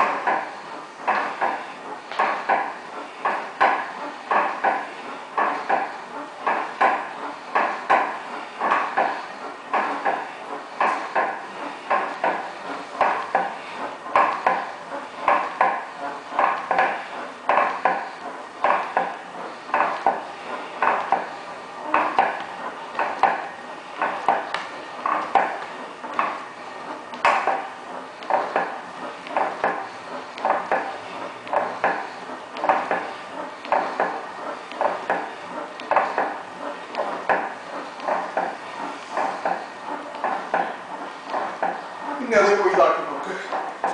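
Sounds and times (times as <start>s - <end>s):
elliptical trainer knocking: 0.0s - 43.9s.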